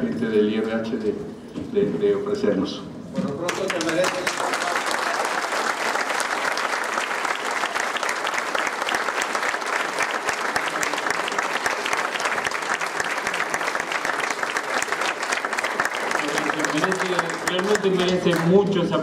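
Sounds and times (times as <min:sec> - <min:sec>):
audience applauding: 0:03.4 - 0:19.0.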